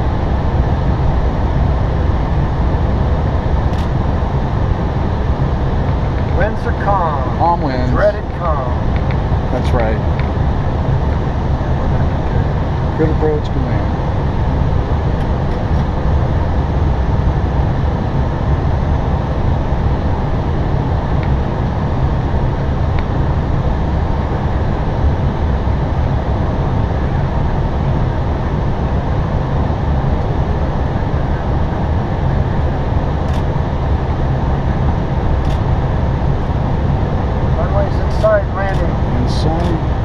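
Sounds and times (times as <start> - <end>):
aircraft cockpit rumble: 0.0 - 40.0.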